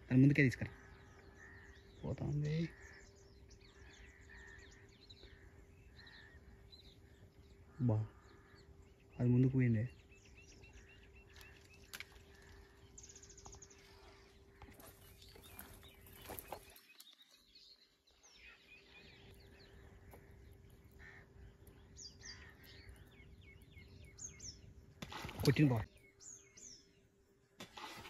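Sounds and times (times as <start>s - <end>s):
bird chirps: 0.0s - 27.1s.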